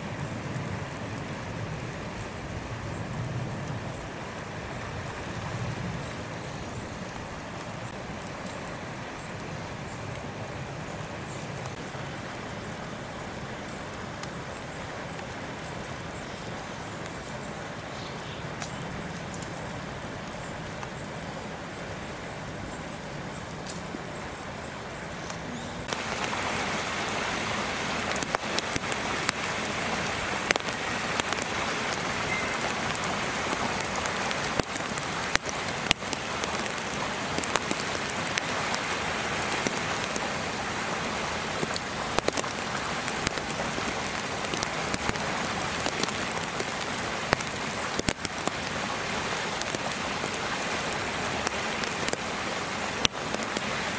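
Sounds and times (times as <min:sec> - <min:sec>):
wet snow falling hiss: 0:00.0 - 0:53.9.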